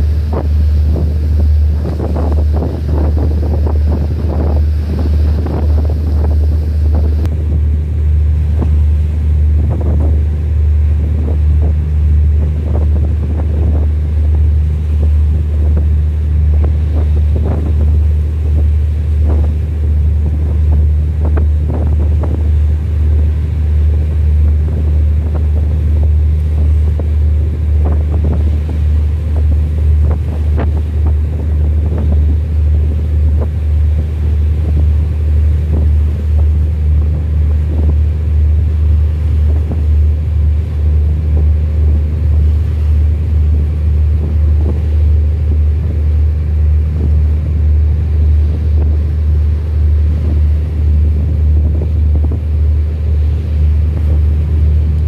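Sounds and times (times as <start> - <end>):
boat engine droning: 0.0 - 55.0
water splashing against hull: 0.0 - 55.0
wind buffeting microphone: 0.0 - 55.0.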